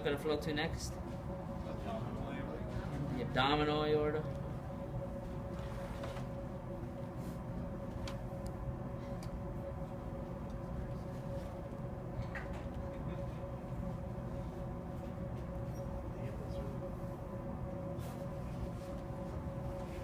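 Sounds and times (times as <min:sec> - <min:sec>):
steady room hum: 0:00.0 - 0:20.0.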